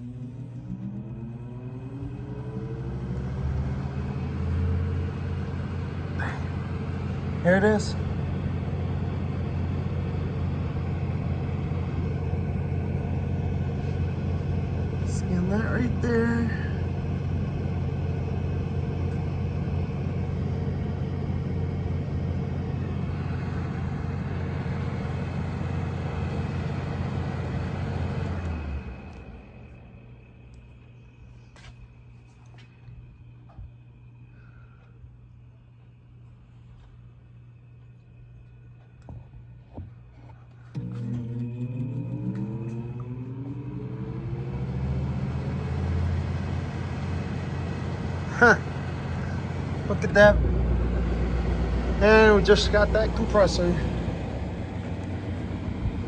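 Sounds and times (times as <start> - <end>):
air conditioner motor whine: 0.0 - 56.0.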